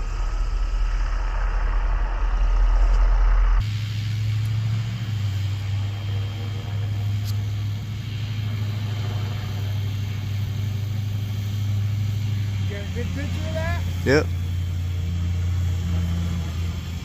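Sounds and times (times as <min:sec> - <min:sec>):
high whine: 0:00.0 - 0:17.0
rc helicopter low hum: 0:00.0 - 0:17.0.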